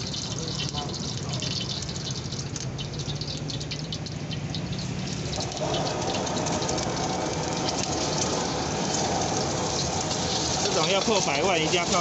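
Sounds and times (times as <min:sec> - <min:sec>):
gas burner running: 0:00.0 - 0:12.0
hot oil crackling: 0:00.0 - 0:12.0
oil pouring and sizzling: 0:00.0 - 0:12.0.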